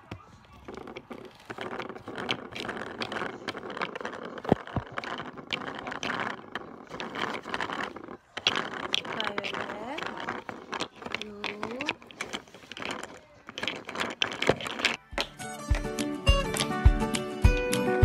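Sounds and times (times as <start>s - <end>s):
small clicks and knocks: 0.0s - 16.8s.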